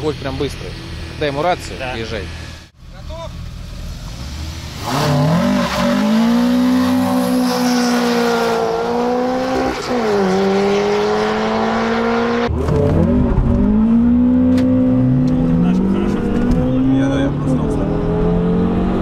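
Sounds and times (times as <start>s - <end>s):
car engine under full throttle: 3.4s - 19.0s.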